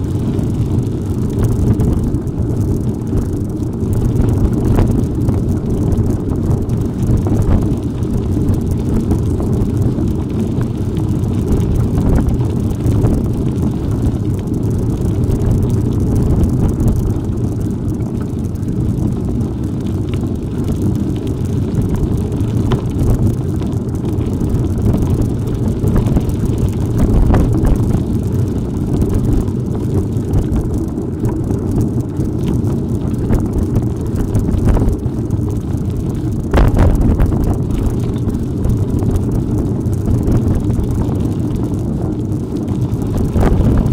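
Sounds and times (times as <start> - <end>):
bicycle riding on rough track: 0.0 - 43.9
wind buffeting microphone: 0.0 - 43.9.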